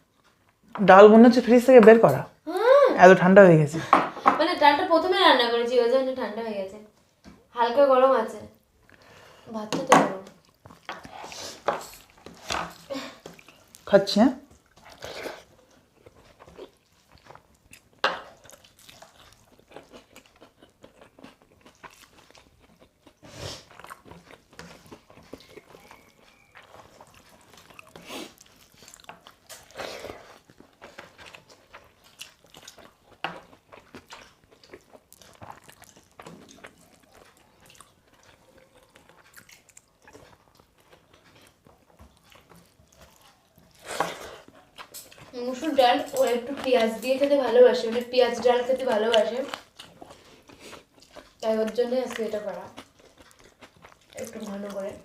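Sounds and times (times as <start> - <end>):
chewing and mouth sounds: 10.1 - 55.0.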